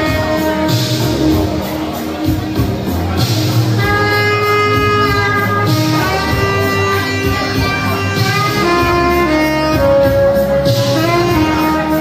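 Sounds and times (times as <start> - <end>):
musical accompaniment: 0.0 - 12.0
saxophone slow melody: 0.0 - 12.0.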